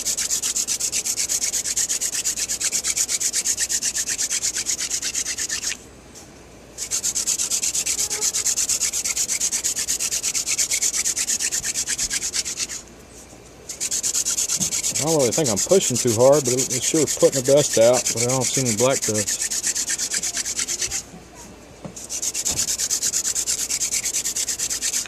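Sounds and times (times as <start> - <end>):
wooden spindle rasping in hearth: 0.0 - 5.8, 6.8 - 12.8, 13.7 - 21.1, 22.0 - 25.0.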